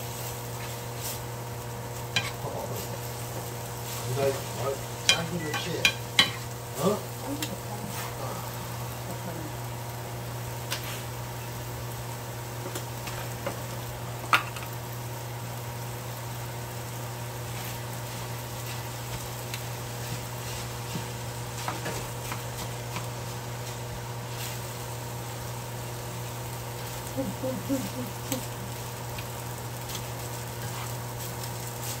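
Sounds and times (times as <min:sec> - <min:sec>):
vegetables sizzling in frying pan: 0:00.0 - 0:32.0.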